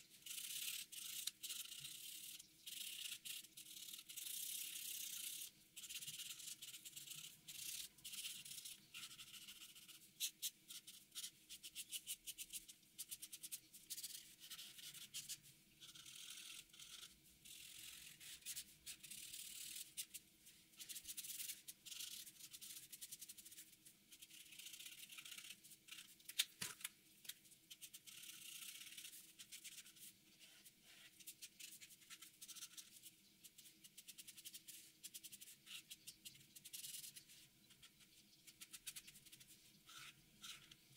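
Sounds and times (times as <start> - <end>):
marker pen scratching on paper: 0.2 - 26.6, 27.7 - 40.8.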